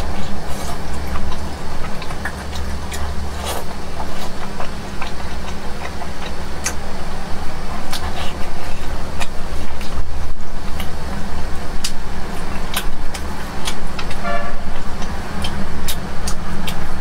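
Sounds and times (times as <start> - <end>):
wet chewing smacks and clicks: 0.0 - 17.0.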